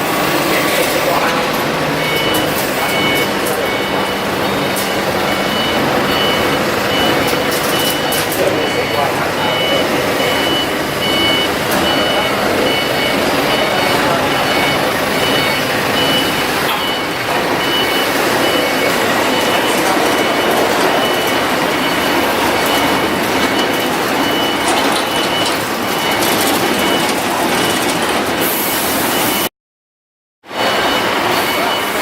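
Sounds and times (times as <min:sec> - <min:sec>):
diesel generator running: 0:00.0 - 0:29.5, 0:30.5 - 0:32.0.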